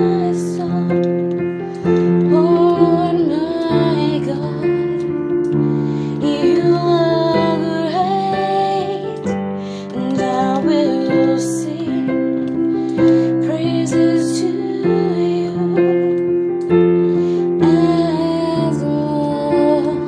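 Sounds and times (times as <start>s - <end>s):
woman singing: 0.0s - 5.4s, 6.1s - 16.7s, 17.4s - 20.0s.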